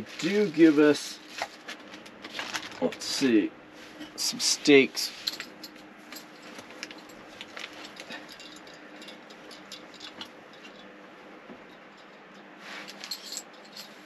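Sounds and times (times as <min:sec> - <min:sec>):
faint steady hum: 0:00.0 - 0:14.0
hands rummaging small parts: 0:00.2 - 0:03.3, 0:05.0 - 0:10.9, 0:11.6 - 0:14.0.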